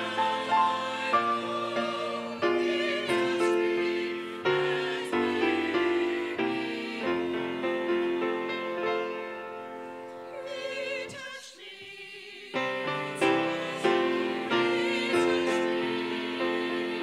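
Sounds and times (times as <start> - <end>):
grand piano: 0.0 - 11.2, 12.1 - 17.0
choir singing: 0.0 - 17.0.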